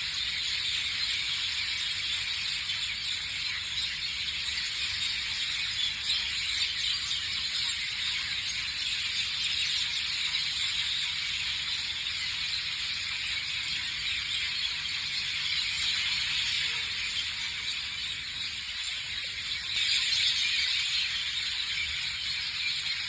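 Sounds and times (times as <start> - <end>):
high-pitched wildlife chorus: 0.0 - 23.0.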